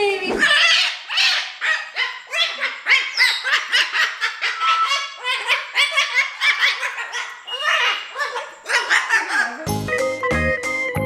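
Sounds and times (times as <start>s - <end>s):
cockatoo squawking: 0.2s - 9.7s.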